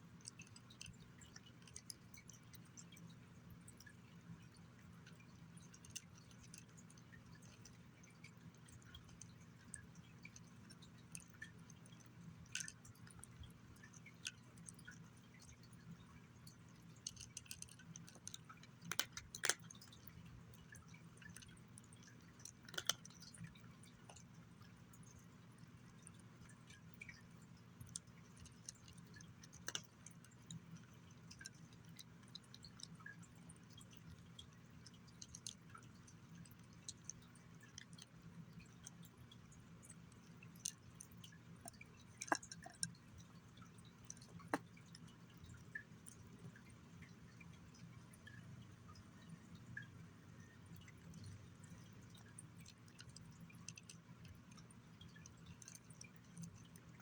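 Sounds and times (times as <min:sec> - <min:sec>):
cat chewing and lip-smacking: 0:00.0 - 0:57.0.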